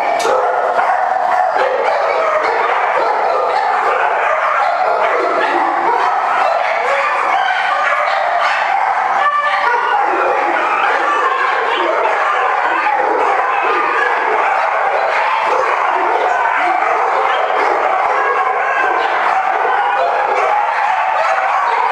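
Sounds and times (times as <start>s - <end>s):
dogs barking and yipping: 0.0s - 21.9s.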